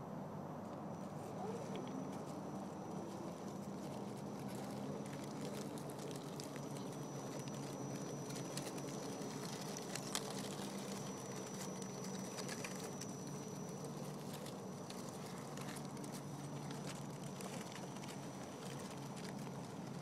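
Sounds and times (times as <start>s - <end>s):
electric motor and gear hum: 0.5s - 20.0s.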